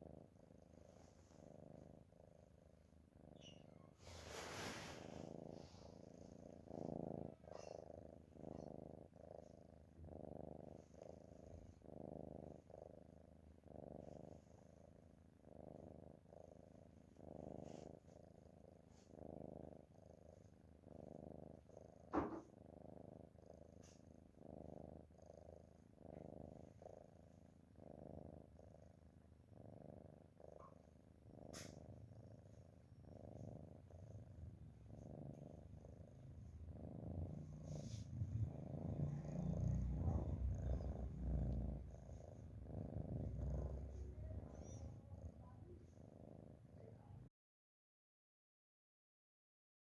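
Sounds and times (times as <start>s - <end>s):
cat snoring softly: 0.0s - 47.3s.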